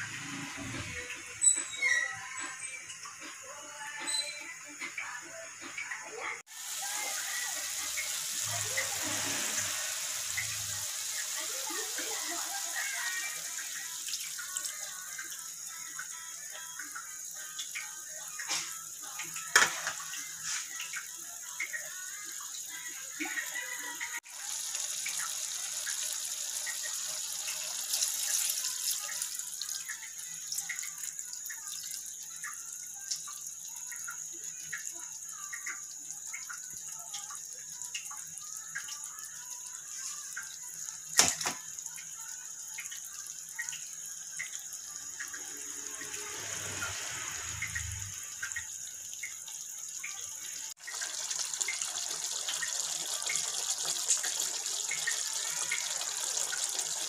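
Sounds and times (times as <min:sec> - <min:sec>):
stew bubbling and sizzling: 0:00.0 - 0:57.0.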